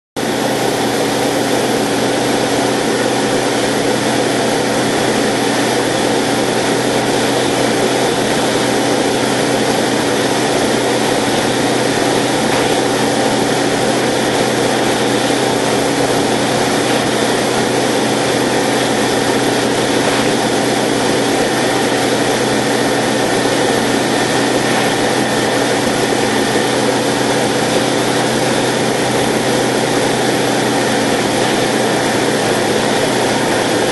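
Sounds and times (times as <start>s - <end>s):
aircraft engine and propeller drone: 0.2s - 33.9s.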